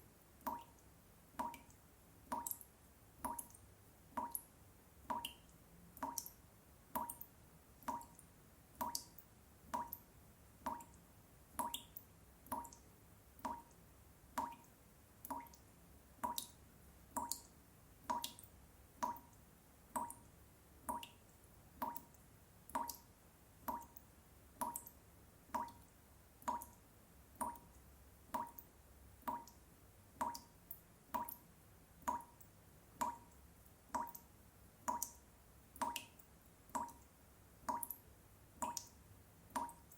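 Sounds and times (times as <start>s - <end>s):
water dripping from a tap: 0.4s - 39.9s.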